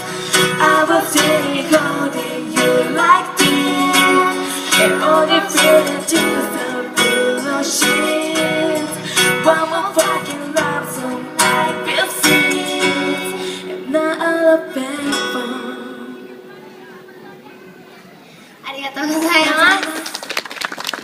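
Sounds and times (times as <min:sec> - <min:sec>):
person singing: 0:00.0 - 0:16.8
acoustic guitar strumming: 0:00.0 - 0:17.8.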